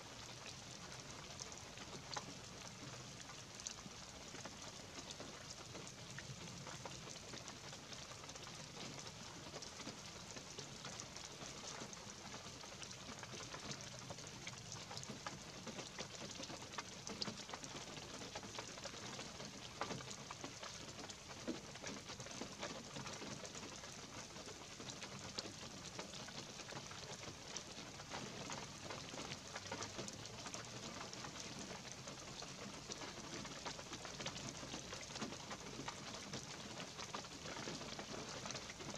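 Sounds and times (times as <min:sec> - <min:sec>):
light rain hissing: 0:00.0 - 0:38.9.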